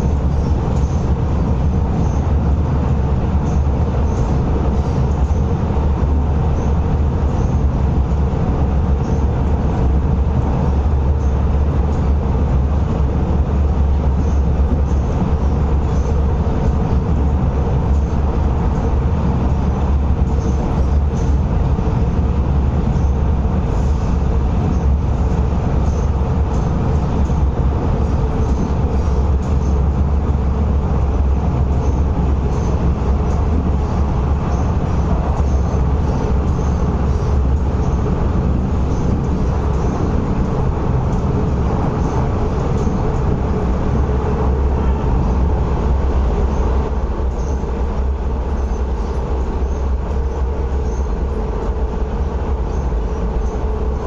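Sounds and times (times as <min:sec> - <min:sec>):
constant hum: 0:00.0 - 0:54.0
train wheels rumbling: 0:00.0 - 0:54.0.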